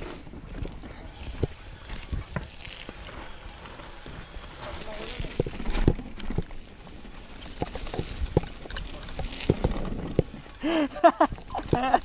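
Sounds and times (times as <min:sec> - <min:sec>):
bike knocks and rattles: 0:00.3 - 0:12.0.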